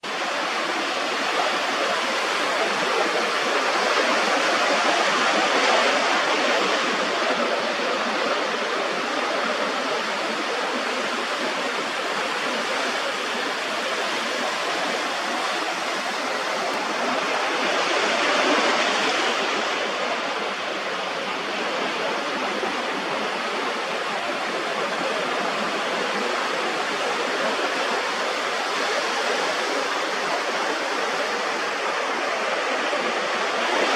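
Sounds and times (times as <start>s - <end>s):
ocean surf washing over rocks: 0.1s - 33.9s.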